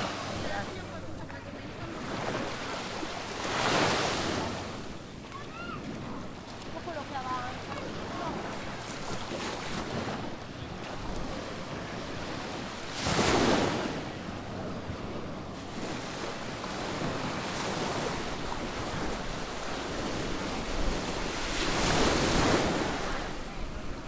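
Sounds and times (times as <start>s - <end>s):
waves washing onto sandy beach: 0.0s - 24.0s.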